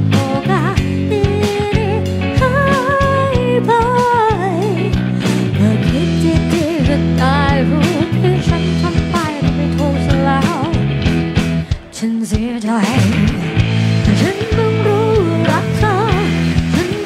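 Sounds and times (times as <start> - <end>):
woman singing into a microphone: 0.0 - 11.0, 11.6 - 17.0
bass guitar: 0.0 - 12.0, 12.8 - 17.0
electric guitar: 0.0 - 17.0.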